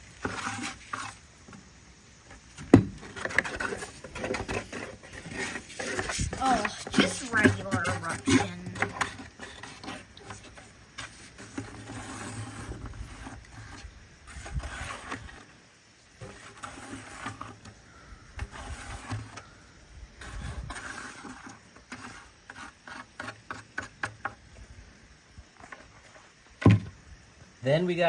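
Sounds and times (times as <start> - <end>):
wet plaster scraping in plastic mold: 0.1 - 1.6, 2.3 - 15.6, 16.2 - 19.6, 20.2 - 24.6.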